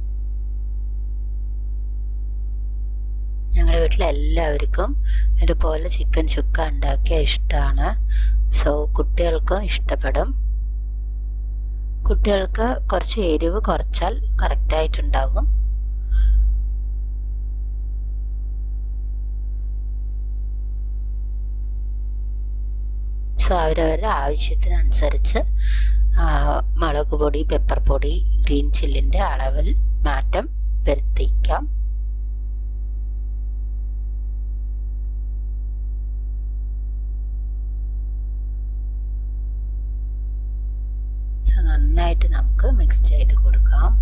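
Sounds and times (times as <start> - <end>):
low electrical hum: 0.0 - 44.0.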